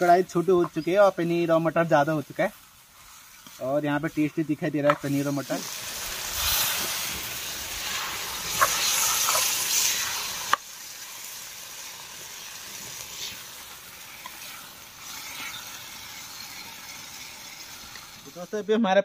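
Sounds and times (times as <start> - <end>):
food sizzling in oil: 0.0 - 18.8.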